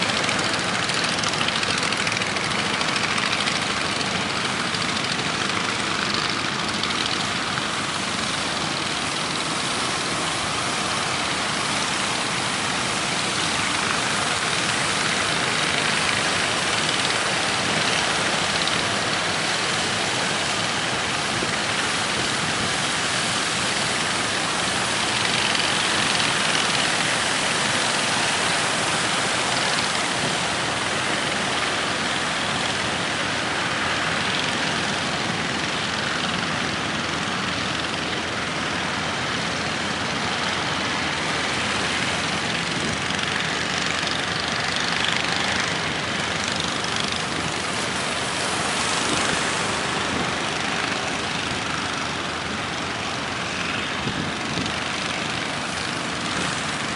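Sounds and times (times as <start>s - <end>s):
boat engine running: 0.0s - 56.9s
waves: 0.0s - 56.9s.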